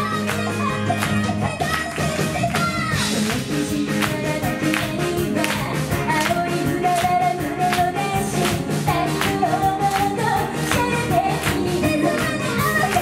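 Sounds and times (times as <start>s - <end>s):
bass guitar: 0.0s - 13.0s
woman singing: 0.0s - 13.0s.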